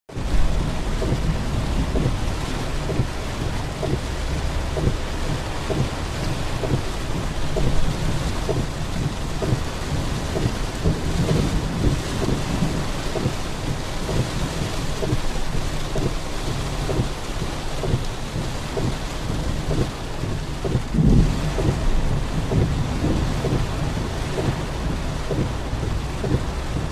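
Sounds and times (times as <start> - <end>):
heavy rain pouring: 0.1 - 26.9
low rumble: 0.1 - 26.9.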